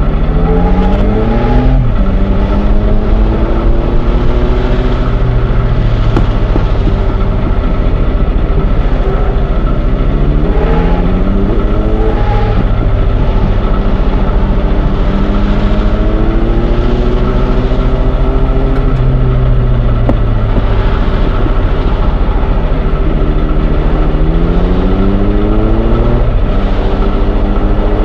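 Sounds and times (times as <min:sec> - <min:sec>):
train engine running: 0:00.0 - 0:27.4.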